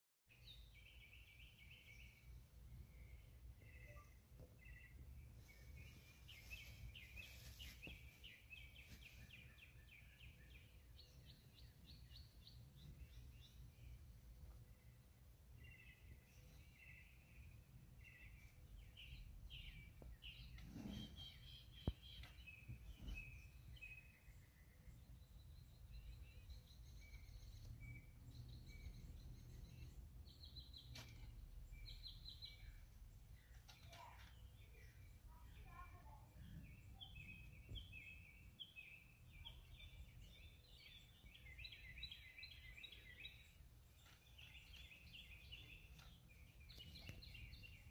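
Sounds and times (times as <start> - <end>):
faint bird chirping: 0.3 - 47.9.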